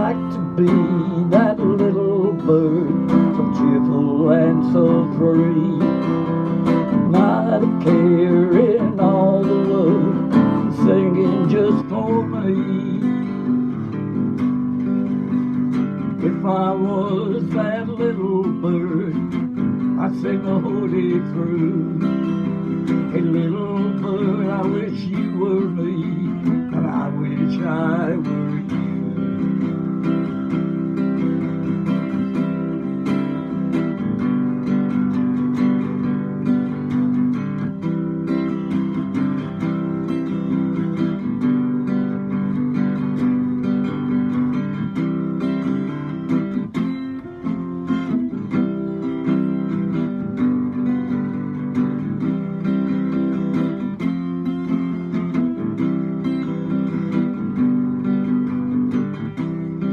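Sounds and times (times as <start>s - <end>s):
acoustic guitar strumming chords: 0.0s - 59.9s.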